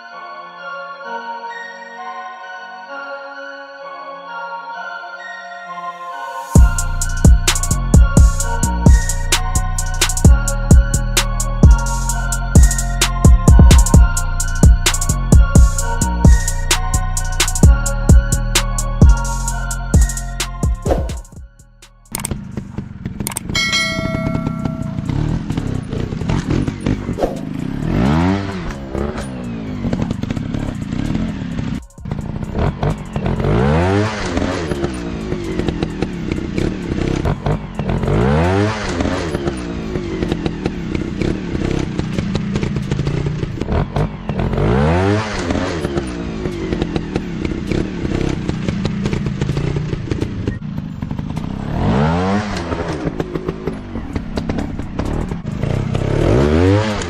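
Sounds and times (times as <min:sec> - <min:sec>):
motorcycle engine revving: 0:06.6 - 0:21.3, 0:22.1 - 0:57.0.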